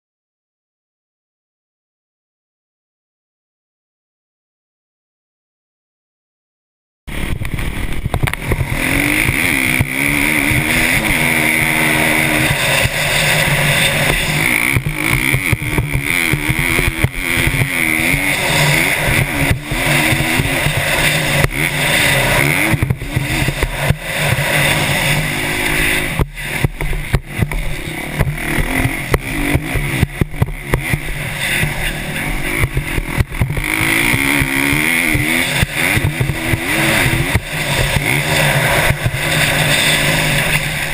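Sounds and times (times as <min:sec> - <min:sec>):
dirt bike engine revving: 0:07.1 - 0:40.9.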